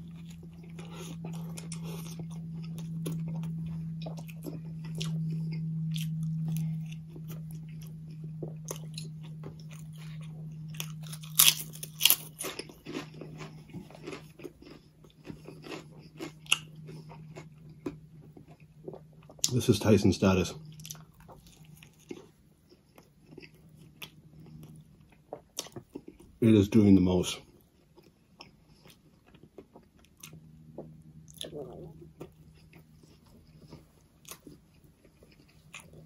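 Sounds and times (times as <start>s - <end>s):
chewing and biting sandwich: 0.0s - 26.4s, 27.4s - 36.0s
steady low hum: 0.0s - 36.0s.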